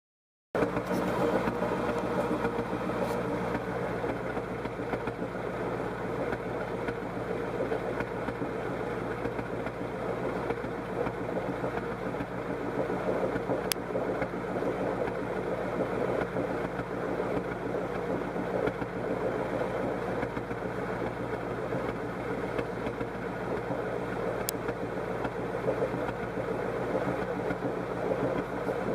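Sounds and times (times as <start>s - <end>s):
engine idling with misfire: 0.6s - 28.9s.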